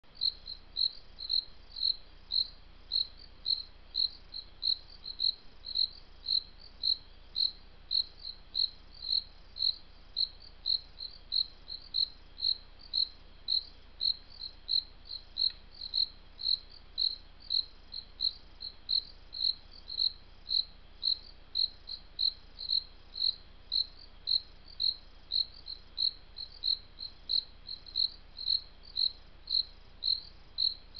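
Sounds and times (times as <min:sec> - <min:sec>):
cricket chirping: 0:00.2 - 0:30.9.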